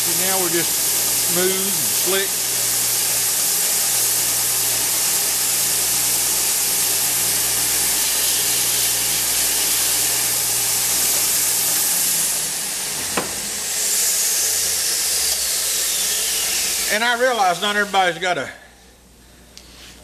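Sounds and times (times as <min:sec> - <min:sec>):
motor hum: 0:00.0 - 0:18.1
belt sander hissing: 0:00.0 - 0:18.3.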